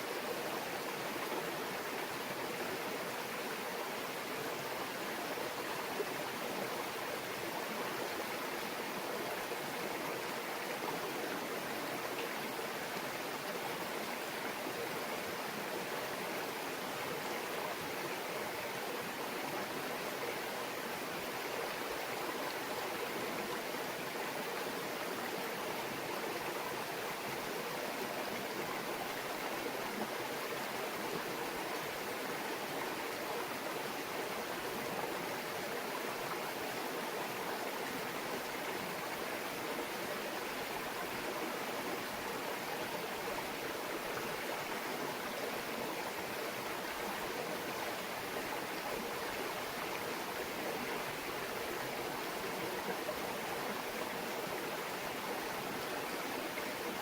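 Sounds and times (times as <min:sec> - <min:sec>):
shallow stream murmuring: 0:00.0 - 0:57.0.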